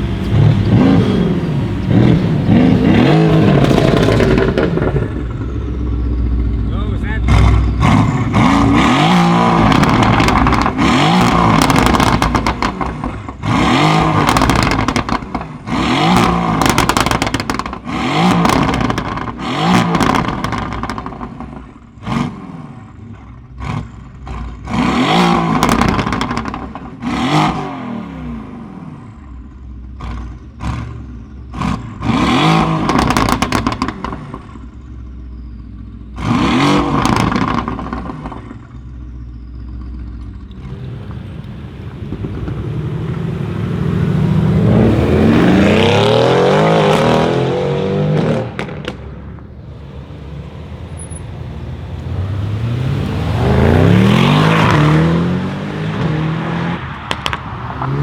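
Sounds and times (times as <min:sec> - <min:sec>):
exhaust crackles and pops: 0:00.0 - 0:22.3, 0:23.2 - 0:27.0, 0:31.5 - 0:34.9, 0:36.2 - 0:46.0, 0:48.2 - 0:54.9, 0:55.9 - 0:58.0
car engine idling: 0:00.0 - 0:24.9, 0:28.4 - 0:32.1, 0:32.7 - 0:36.3, 0:36.9 - 0:46.7, 0:48.4 - 0:56.0
car engine revving: 0:00.0 - 0:58.0.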